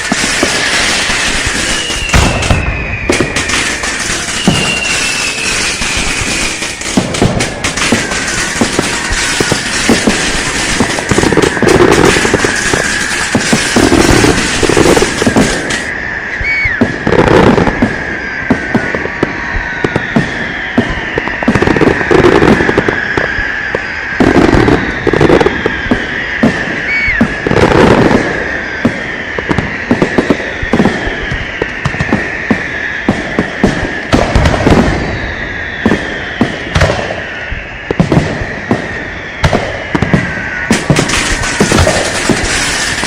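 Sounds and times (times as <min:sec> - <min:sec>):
falling whine: 0:00.0 - 0:43.0
firecrackers banging and popping: 0:00.0 - 0:43.0.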